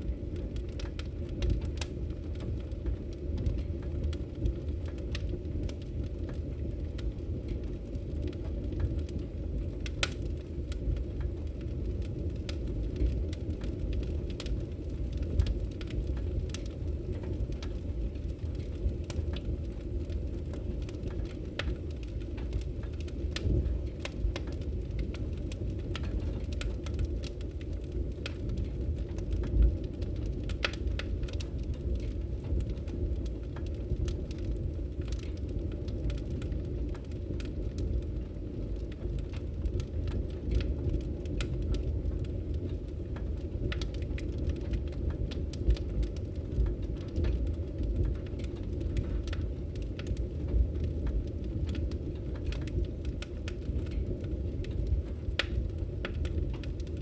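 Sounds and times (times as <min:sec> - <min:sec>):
fire burning rumble: 0:00.0 - 0:57.0
fire popping and crackling: 0:00.0 - 0:57.0.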